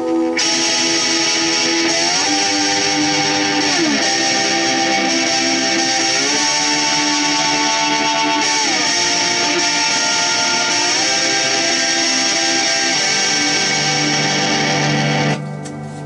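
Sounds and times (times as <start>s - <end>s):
slide guitar chords gliding: 0.0s - 16.0s.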